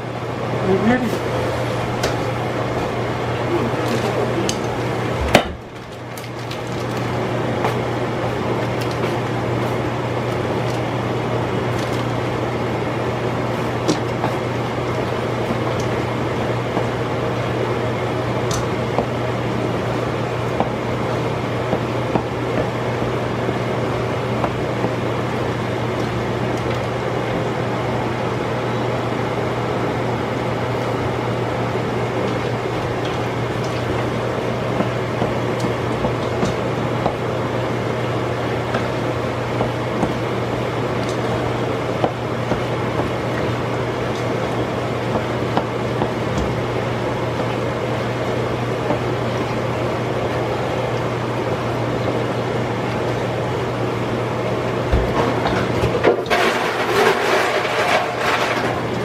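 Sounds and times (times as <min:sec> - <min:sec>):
chicken frying in hot oil: 0:05.9 - 0:54.9.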